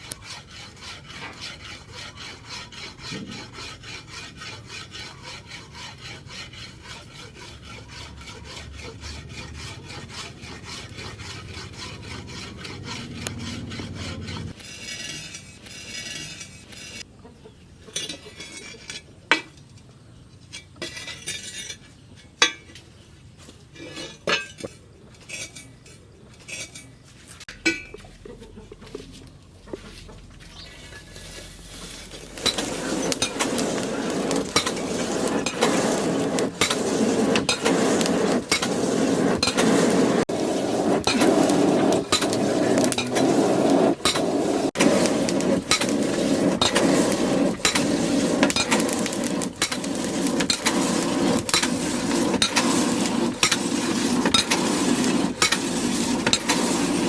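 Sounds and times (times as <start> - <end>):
rasping strokes on steel: 0.0 - 17.1, 17.9 - 19.2, 20.5 - 22.8, 23.4 - 28.0, 29.7 - 57.0.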